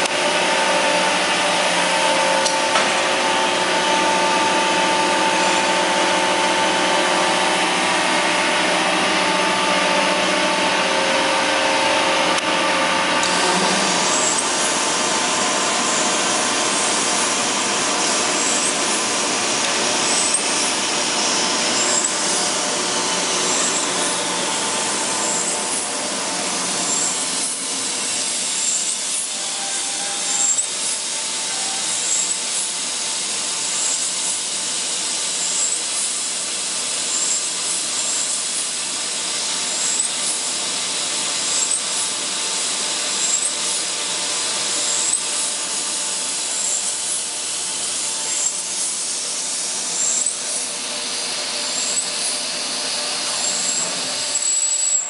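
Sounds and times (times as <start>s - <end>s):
industrial machinery hum: 0.0s - 55.0s.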